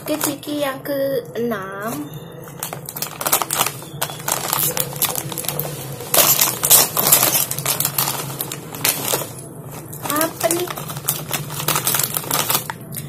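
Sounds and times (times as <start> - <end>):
plastic snack packet crinkling: 0.0 - 0.6, 2.0 - 13.0.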